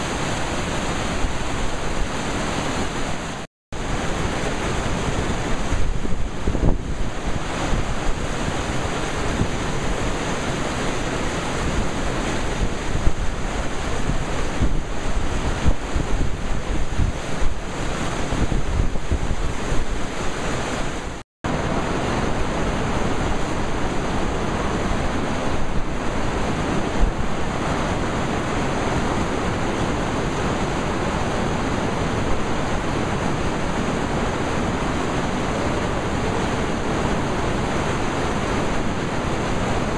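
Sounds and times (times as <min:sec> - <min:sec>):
rapids rushing: 0:00.0 - 0:39.9
wind buffeting microphone: 0:00.0 - 0:39.9.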